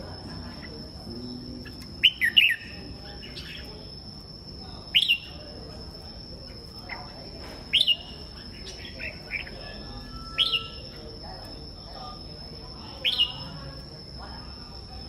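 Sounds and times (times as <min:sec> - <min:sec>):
birds chirping: 0:00.0 - 0:15.0
murmur of background voices: 0:00.0 - 0:15.0.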